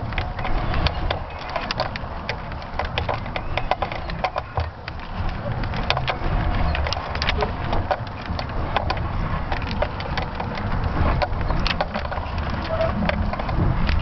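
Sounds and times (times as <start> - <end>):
sharp clicks and creaks: 0.0 - 14.0
wind buffeting microphone: 0.0 - 14.0.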